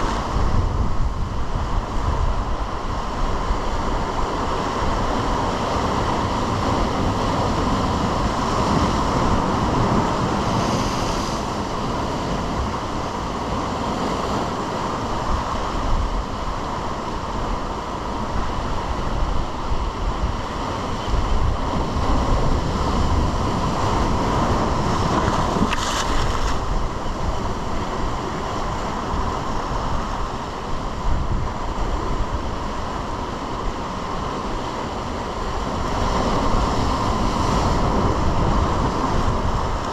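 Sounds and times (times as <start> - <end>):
ocean waves washing: 0.0 - 39.9
wind on microphone: 0.0 - 39.9.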